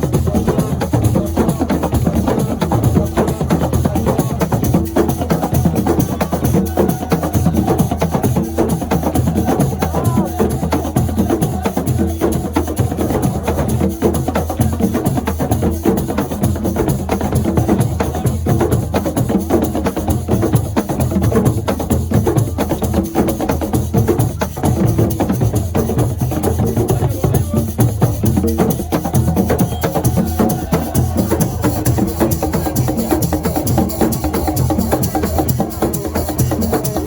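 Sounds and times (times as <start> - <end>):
fast percussion drumming: 0.0 - 37.0.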